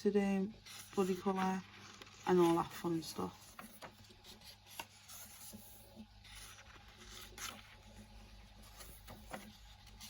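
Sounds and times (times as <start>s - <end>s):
paper pages rustling: 0.6s - 10.0s.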